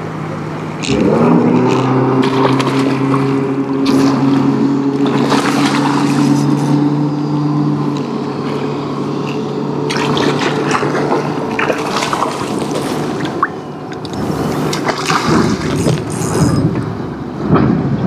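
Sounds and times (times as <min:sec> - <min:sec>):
motor hum: 0:00.0 - 0:17.4
water splashing and sloshing: 0:00.0 - 0:17.8.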